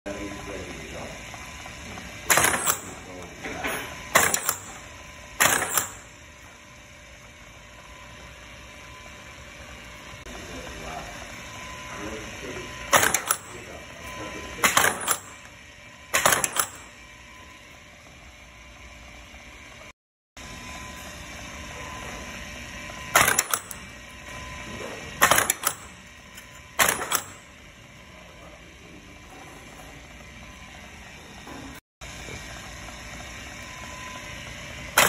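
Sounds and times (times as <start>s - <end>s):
steady hum: 0.1s - 35.0s.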